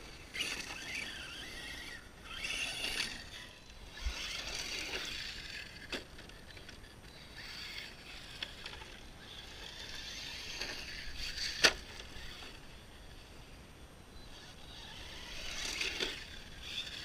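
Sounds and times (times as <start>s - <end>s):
rc truck electric motor whining: 0.0s - 13.6s, 14.2s - 17.0s.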